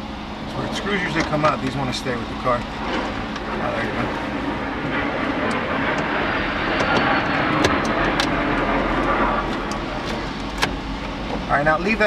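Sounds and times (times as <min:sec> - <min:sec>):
industrial area background noise: 0:00.0 - 0:12.0.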